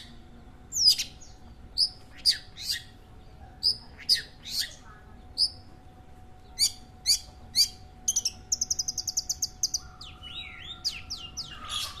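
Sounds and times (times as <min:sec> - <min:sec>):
shrike singing: 0:00.0 - 0:12.0.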